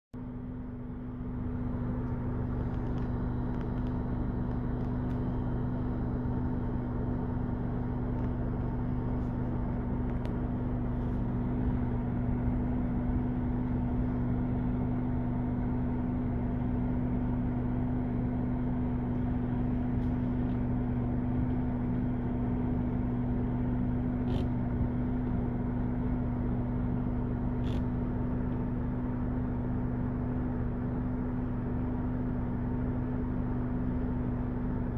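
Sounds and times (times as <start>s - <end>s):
low mechanical hum: 0.2s - 34.9s.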